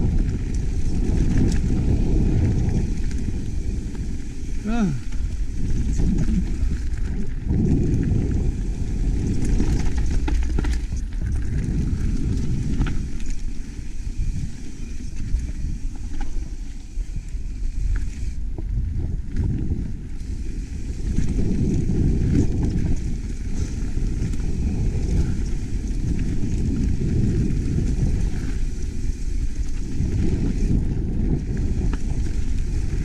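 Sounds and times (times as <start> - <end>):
bike tyres clicking and rattling: 0.0 - 33.0
wind rumble on microphone: 0.0 - 33.0.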